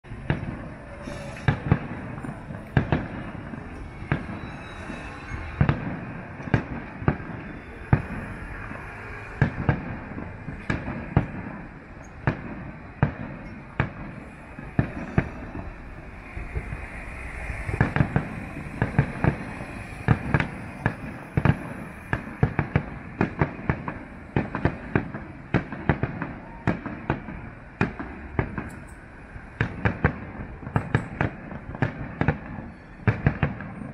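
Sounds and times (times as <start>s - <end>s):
distant fireworks bangs: 0.1s - 33.9s.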